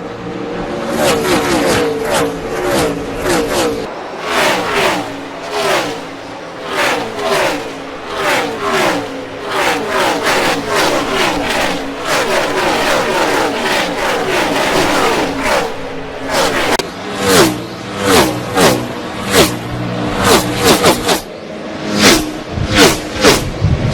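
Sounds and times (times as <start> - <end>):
race car engines passing: 0.0 - 23.9.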